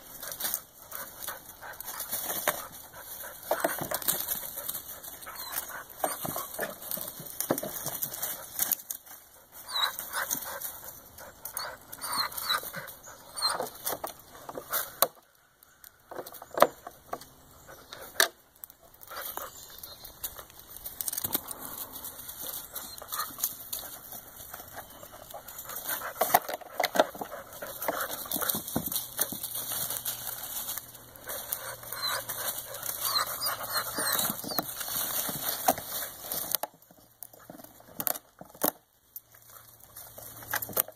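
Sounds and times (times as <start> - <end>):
dogs sniffing: 0.0 - 15.2, 17.6 - 38.3
rustling in dry leaves: 0.0 - 16.5, 17.3 - 40.9.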